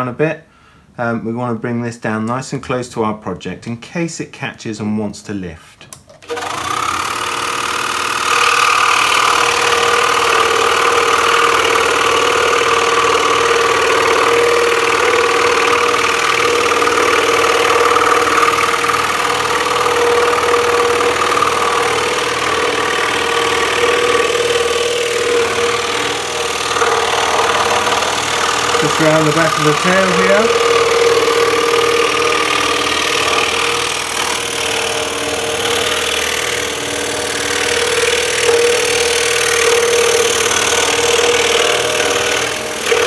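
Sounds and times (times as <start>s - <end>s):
scroll saw cutting wood: 6.2s - 43.0s.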